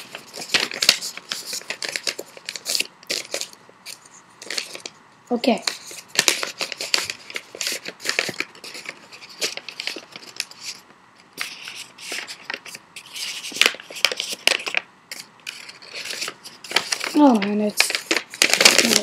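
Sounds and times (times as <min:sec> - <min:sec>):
paper rustling and crinkling: 0:00.0 - 0:19.0.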